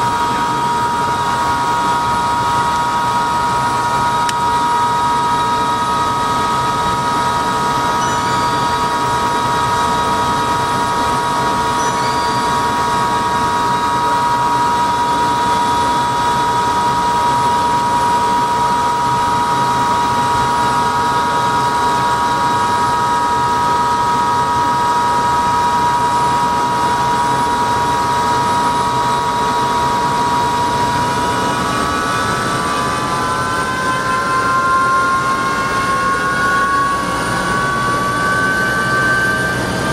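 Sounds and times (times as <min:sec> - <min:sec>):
helicopter rotor and engine noise: 0:00.0 - 0:39.9
high turbine whine: 0:00.0 - 0:39.9.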